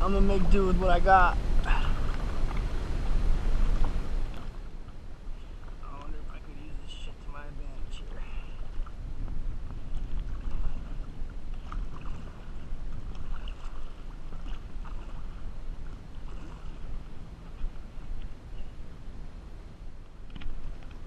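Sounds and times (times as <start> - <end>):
wind on microphone: 0.0 - 21.0
paddle splashing in water: 1.4 - 6.9, 7.8 - 19.2, 19.8 - 21.0.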